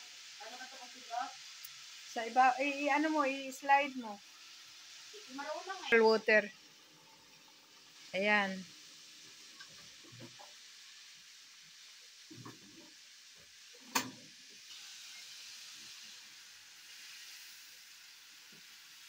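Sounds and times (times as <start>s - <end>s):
water sizzling in hot pan: 0.0s - 19.0s.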